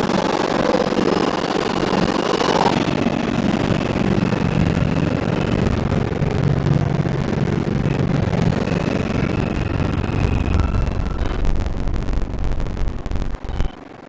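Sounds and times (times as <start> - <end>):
faint high whine: 0.0 - 14.0
subway wheels rumbling on rail: 0.0 - 14.0
low hum: 0.2 - 14.0.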